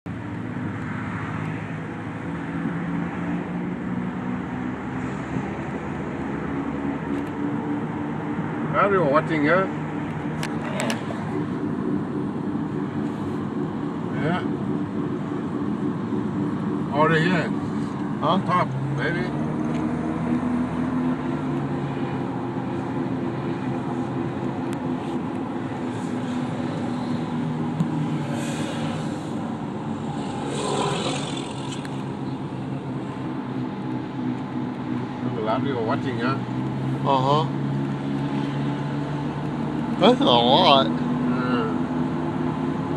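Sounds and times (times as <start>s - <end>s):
low engine hum: 0.1s - 42.9s
vehicle rushing noise: 0.6s - 42.9s.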